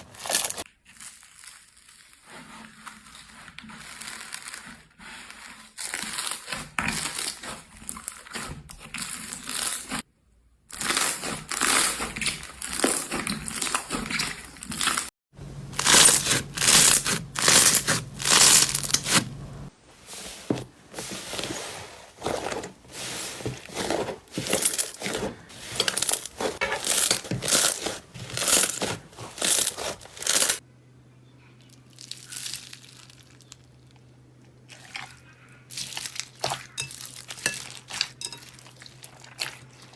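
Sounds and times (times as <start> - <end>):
slime crackling and crunching: 0.0 - 10.0, 10.7 - 15.1, 15.8 - 19.3, 20.1 - 30.6, 31.8 - 33.8, 34.7 - 39.9.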